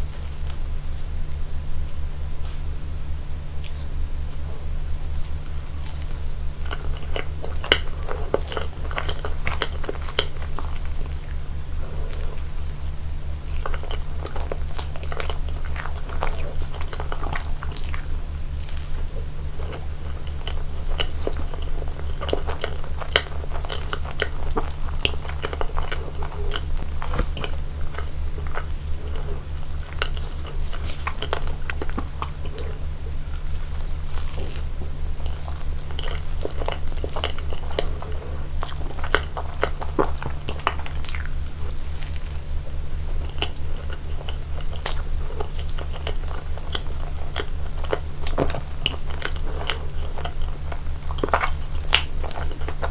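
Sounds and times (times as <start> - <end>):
steady low hum: 0.0 - 52.9
wet chewing with crackles: 0.0 - 52.9.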